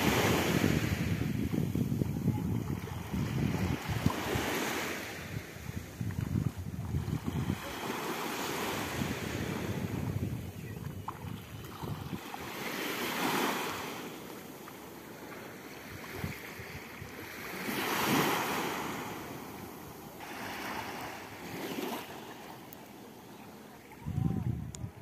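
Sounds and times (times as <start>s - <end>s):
sea waves breaking on beach: 0.0s - 24.1s.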